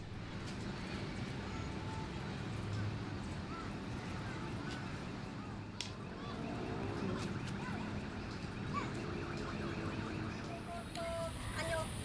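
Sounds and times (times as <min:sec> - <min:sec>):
city rumble: 0:00.0 - 0:12.0.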